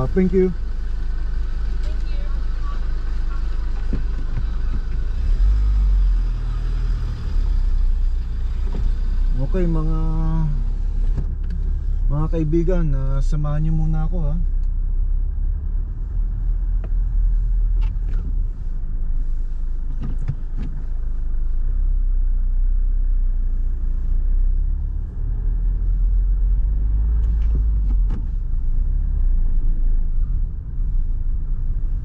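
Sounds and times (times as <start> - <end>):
car rumbling from inside cabin: 0.0 - 32.0.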